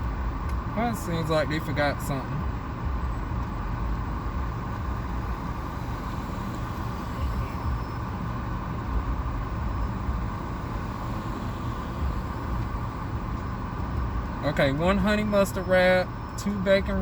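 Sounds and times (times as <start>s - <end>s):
car cabin rumble: 0.0s - 17.0s
car engine idling: 0.0s - 17.0s.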